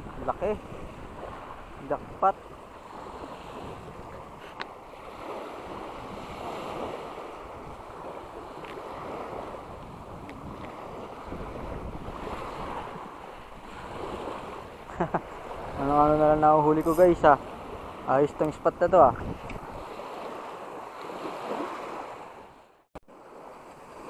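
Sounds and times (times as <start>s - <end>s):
wind rumbling on microphone: 0.0s - 22.6s
sea waves lapping at shore: 0.0s - 24.0s.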